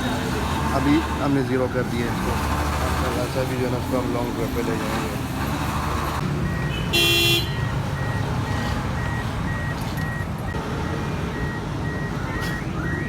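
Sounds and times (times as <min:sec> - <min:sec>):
vehicle and traffic rumble: 0:00.0 - 0:13.0.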